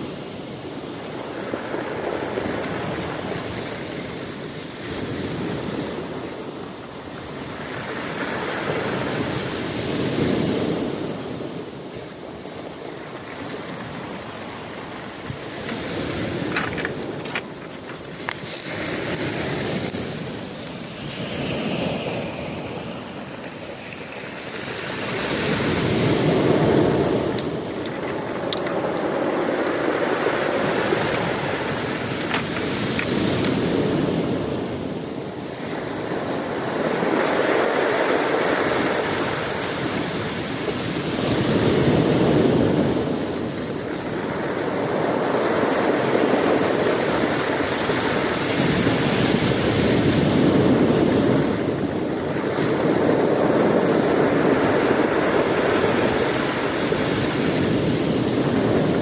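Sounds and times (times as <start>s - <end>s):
ocean waves breaking: 0.0s - 59.0s
wind on microphone: 0.0s - 59.0s.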